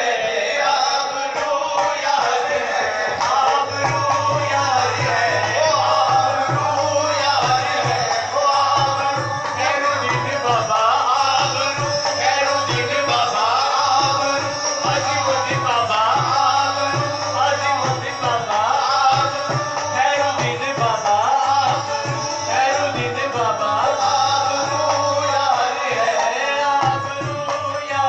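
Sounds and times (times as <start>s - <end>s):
harmonium: 0.0s - 28.0s
men singing through microphones: 0.0s - 28.0s.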